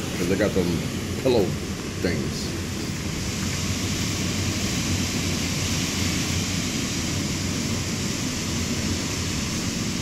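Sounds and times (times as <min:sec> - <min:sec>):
strong wind blowing: 0:00.0 - 0:10.0.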